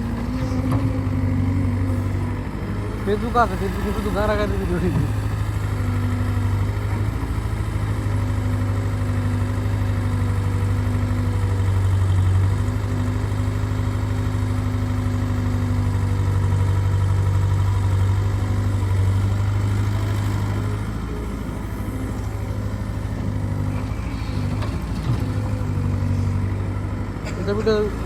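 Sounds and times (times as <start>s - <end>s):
diesel engine running at low throttle: 0.0s - 28.0s.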